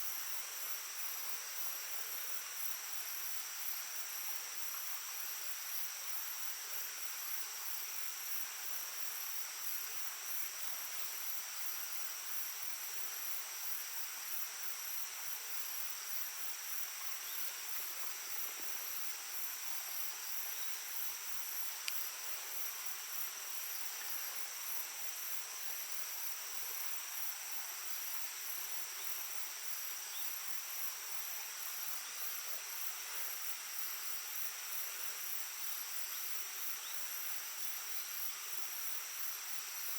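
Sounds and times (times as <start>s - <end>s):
insects chirring: 5.0s - 39.9s.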